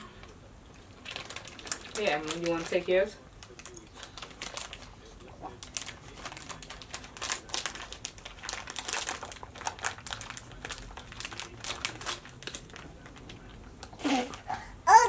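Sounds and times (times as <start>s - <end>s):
plastic candy bags crinkling: 0.2s - 14.4s.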